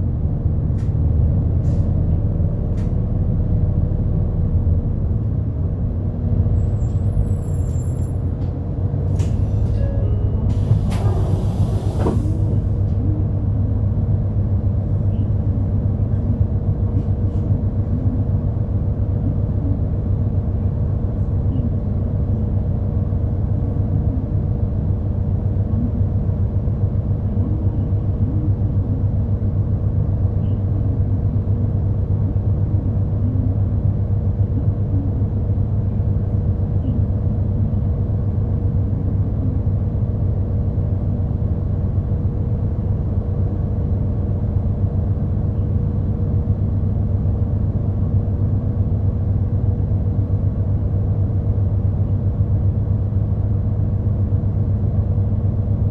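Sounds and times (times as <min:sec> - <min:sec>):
bus engine drone: 0:00.0 - 0:55.9.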